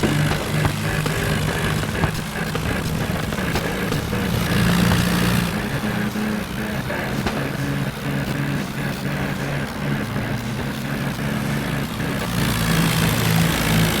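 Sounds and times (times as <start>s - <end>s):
tractor diesel engines running: 0.0s - 14.0s.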